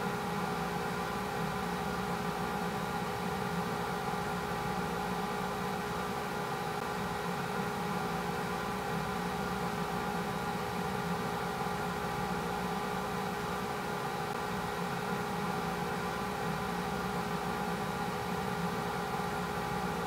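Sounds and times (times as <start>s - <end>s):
mechanical hum and whir: 0.0s - 20.0s.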